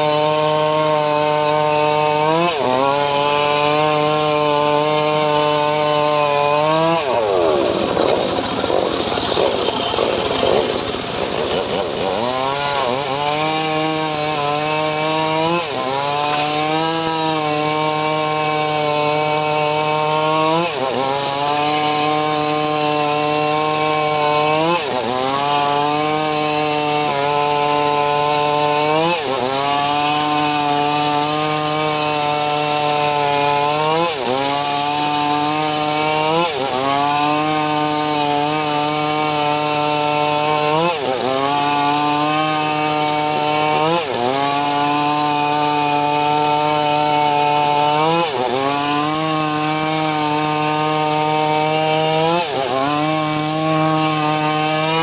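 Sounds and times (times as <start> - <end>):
engine-driven saw cutting wood: 0.0 - 55.0.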